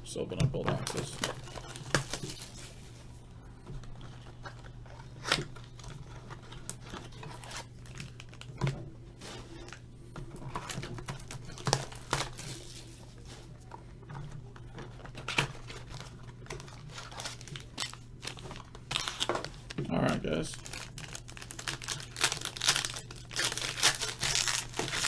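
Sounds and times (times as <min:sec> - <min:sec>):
steady low hum: 0:00.0 - 0:25.0
plastic wrap crinkling and tearing: 0:00.8 - 0:03.0, 0:03.9 - 0:09.8, 0:10.4 - 0:13.5, 0:14.5 - 0:25.0.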